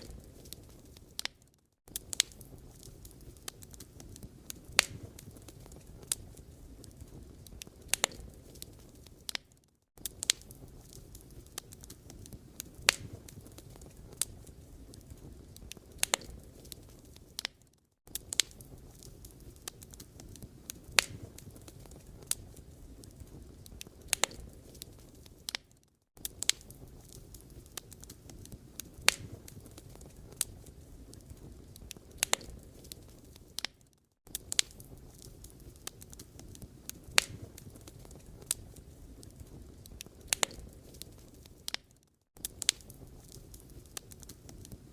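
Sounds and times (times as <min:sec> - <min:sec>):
logs crackling and popping: 0:00.0 - 0:44.9.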